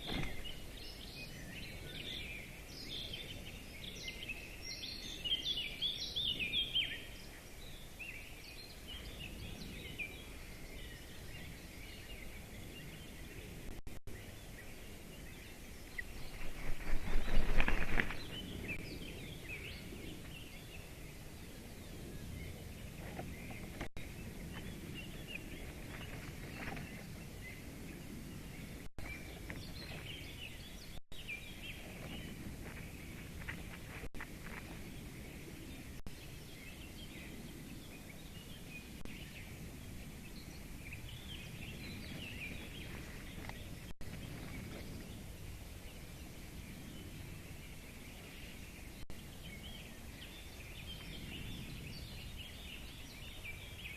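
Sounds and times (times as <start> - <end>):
small birds chirping: 0.0 - 53.9
steady outdoor hiss: 0.0 - 53.9.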